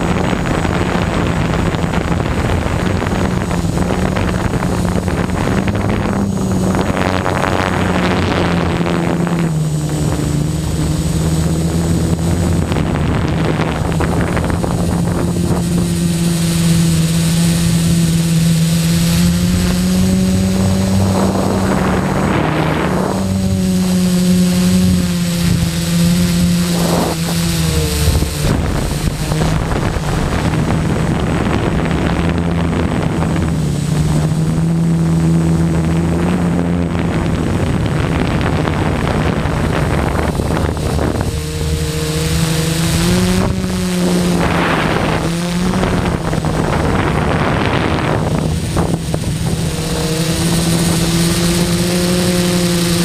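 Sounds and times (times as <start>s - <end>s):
quadcopter motors buzzing: 0.0s - 53.0s
rushing wind noise: 0.0s - 53.0s.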